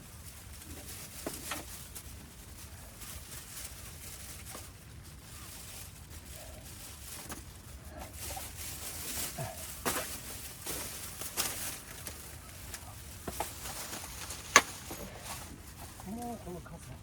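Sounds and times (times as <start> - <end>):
camping gear rustling and knocking: 0.0 - 17.0.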